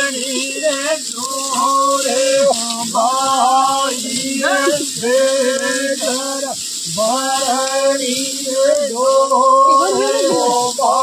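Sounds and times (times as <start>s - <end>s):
person singing long notes: 0.0s - 11.0s.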